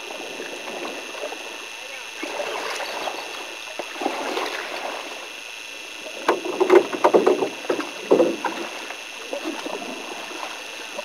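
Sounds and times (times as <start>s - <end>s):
paddles splashing in water: 0.0s - 5.4s, 6.0s - 11.0s.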